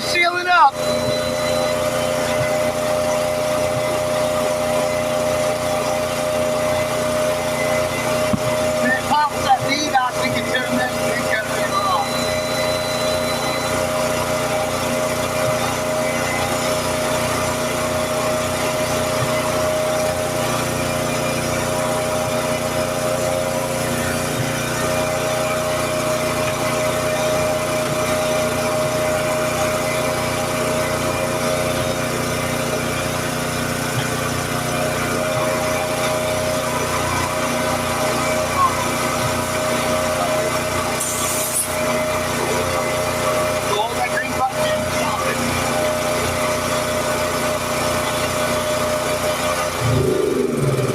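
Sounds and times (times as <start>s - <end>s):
generator engine running: 0.0s - 50.9s.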